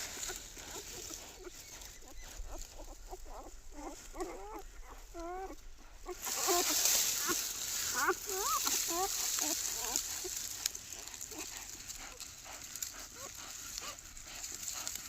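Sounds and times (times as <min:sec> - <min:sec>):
puppy whining: 0:00.2 - 0:12.2.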